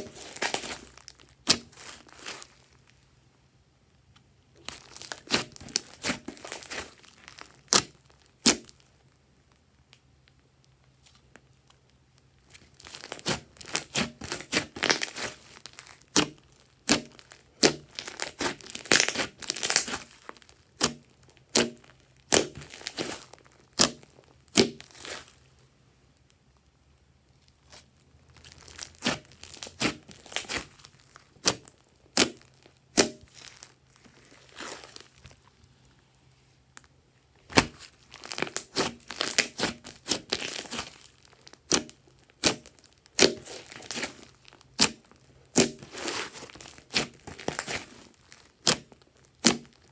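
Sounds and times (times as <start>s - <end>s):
slime crackling and popping: 0.0s - 3.0s, 4.0s - 25.5s, 26.1s - 36.0s, 36.7s - 49.9s.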